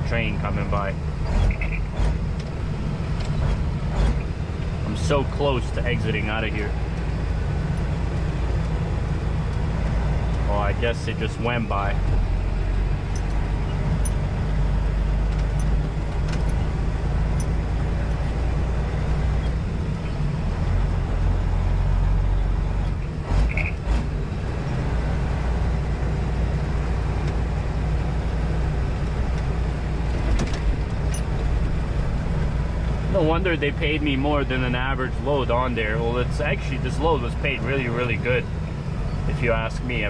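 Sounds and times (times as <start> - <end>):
diesel truck engine drone: 0.0 - 40.0.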